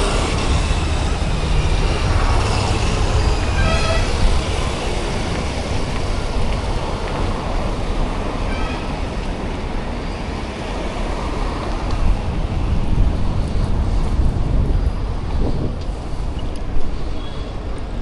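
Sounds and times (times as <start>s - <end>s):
road noise: 0.0s - 18.0s
wind rumble: 0.0s - 18.0s.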